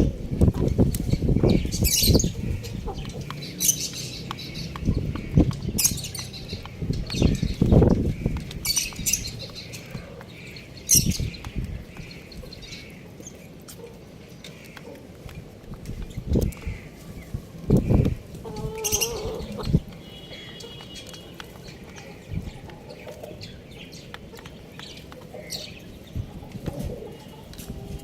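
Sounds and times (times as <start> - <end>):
chicks cheeping: 0.0 - 28.0.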